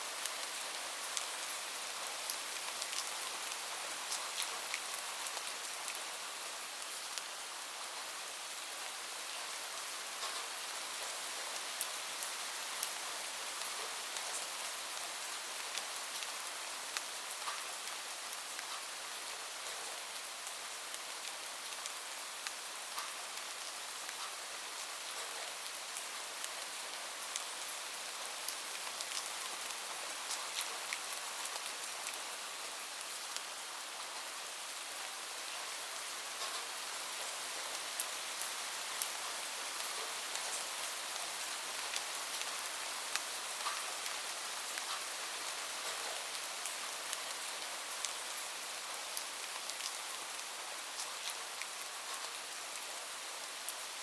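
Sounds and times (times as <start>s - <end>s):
steady rain hiss: 0.0s - 54.0s
raindrops ticking on a surface: 0.1s - 7.3s, 8.8s - 53.8s.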